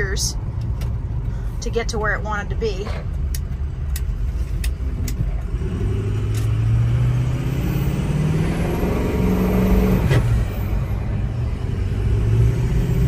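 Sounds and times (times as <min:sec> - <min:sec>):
diesel truck engine accelerating: 0:00.0 - 0:13.0.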